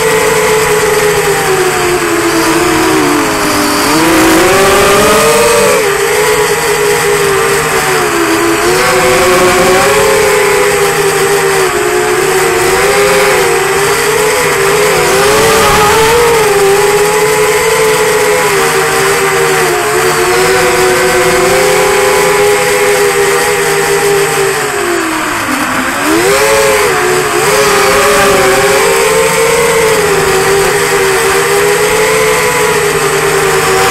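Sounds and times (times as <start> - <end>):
drone motors and propellers whining: 0.0 - 33.9.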